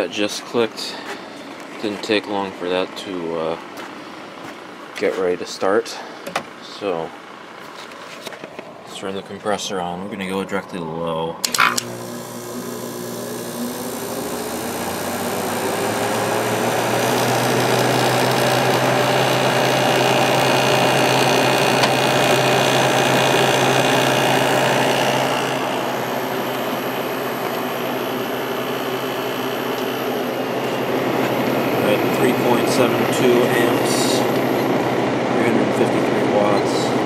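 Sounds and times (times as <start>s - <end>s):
air conditioner humming: 0.0s - 37.0s.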